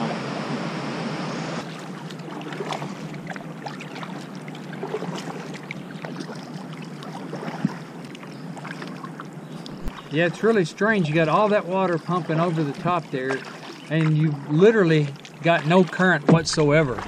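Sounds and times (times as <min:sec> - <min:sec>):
paddle splashing water: 0:01.6 - 0:17.0
water dripping: 0:01.7 - 0:17.0.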